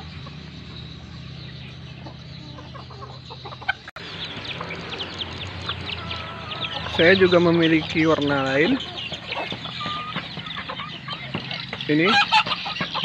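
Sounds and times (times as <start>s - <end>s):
chicks peeping rapidly: 0.0s - 13.0s
chickens clucking softly: 1.6s - 13.0s.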